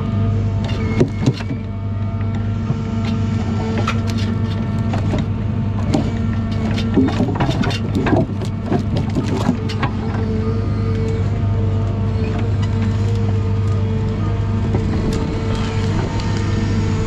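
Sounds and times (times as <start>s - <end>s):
forestry machine engine running: 0.0s - 17.0s
knocks and creaks of wood and metal: 0.5s - 17.0s.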